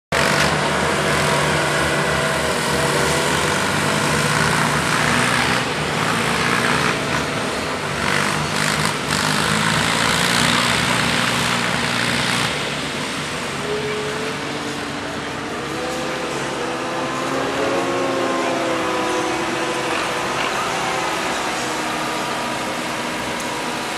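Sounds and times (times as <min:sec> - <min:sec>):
tractor diesel engine under load: 0:00.1 - 0:23.9.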